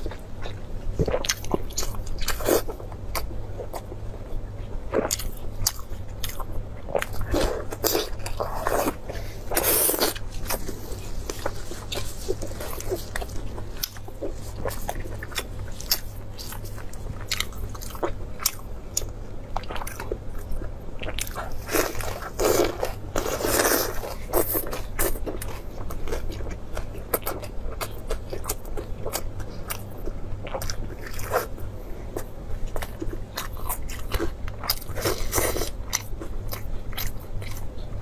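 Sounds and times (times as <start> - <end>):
chewing and crunching lettuce: 0.0 - 38.0
steady low hum: 0.0 - 38.0.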